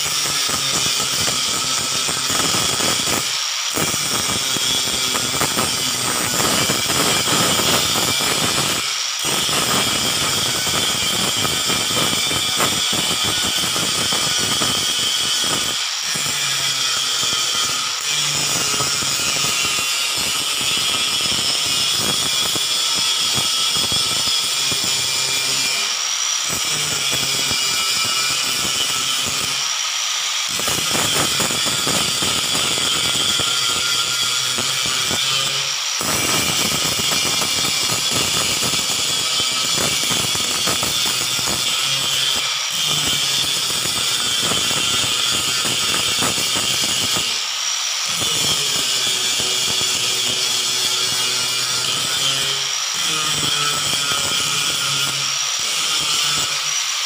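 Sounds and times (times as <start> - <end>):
angle grinder grinding metal: 0.0 - 57.0.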